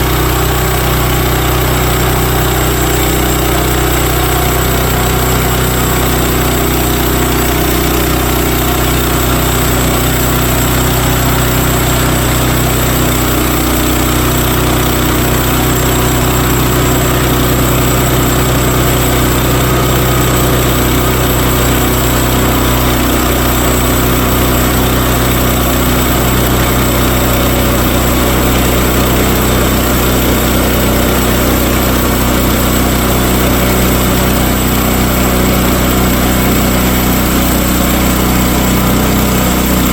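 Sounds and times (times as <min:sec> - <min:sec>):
band saw cutting log: 0:00.0 - 0:39.9
gasoline engine running: 0:00.0 - 0:39.9.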